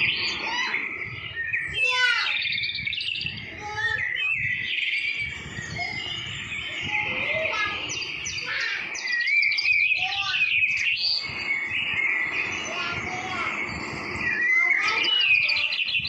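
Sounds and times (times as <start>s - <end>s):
birds chirping and calling: 0.0s - 16.0s.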